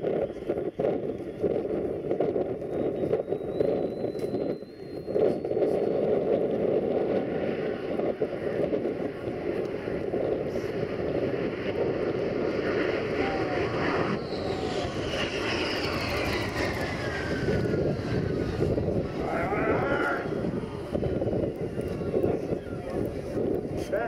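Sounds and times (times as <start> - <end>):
jet engines roaring: 0.0 - 24.0
jet engines winding down whine: 0.0 - 24.0.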